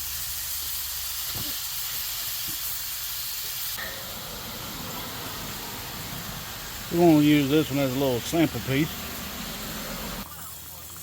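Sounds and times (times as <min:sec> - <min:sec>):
meat sizzling in hot grease: 0:00.0 - 0:11.0.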